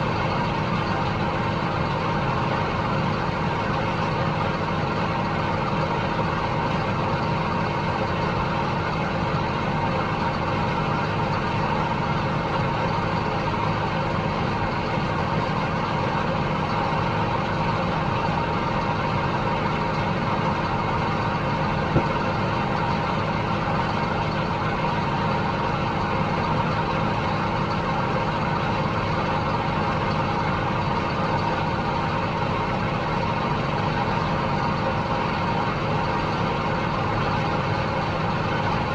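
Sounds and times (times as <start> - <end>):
heavy machinery engine droning: 0.0 - 38.9.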